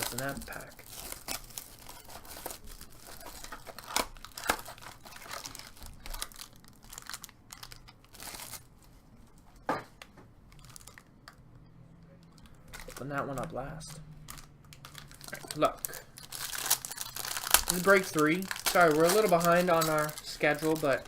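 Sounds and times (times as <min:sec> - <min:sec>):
wrapper crinkling and tearing: 0:00.0 - 0:09.0, 0:10.5 - 0:11.1, 0:12.2 - 0:21.0.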